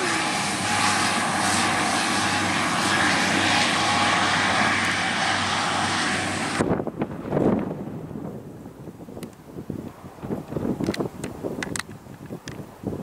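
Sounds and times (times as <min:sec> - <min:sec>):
wind gusts on microphone: 0:00.0 - 0:13.0.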